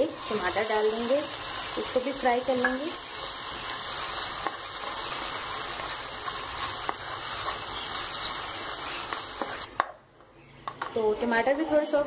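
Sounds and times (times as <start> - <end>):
onion and tomato sizzling in oil: 0.0 - 10.0.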